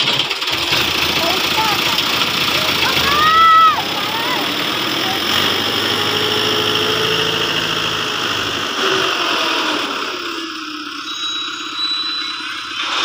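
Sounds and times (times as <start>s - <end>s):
farm machinery engine running: 0.0s - 13.0s.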